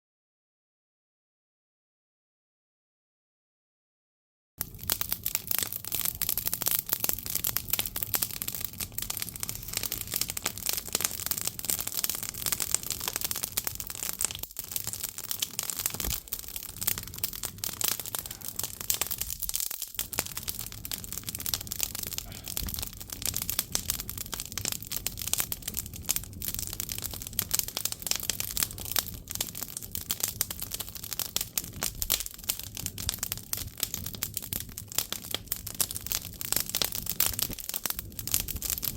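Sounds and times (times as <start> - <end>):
firewood crackling and popping: 4.6 - 38.9.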